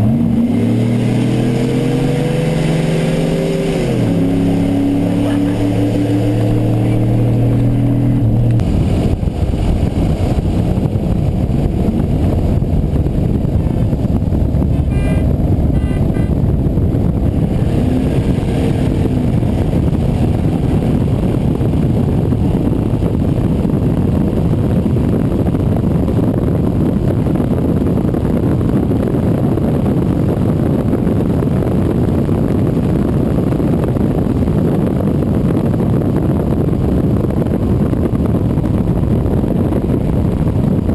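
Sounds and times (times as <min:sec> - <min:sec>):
road noise: 0:00.0 - 0:40.9
truck engine drone: 0:00.0 - 0:40.9
wind rushing on microphone: 0:00.0 - 0:40.9.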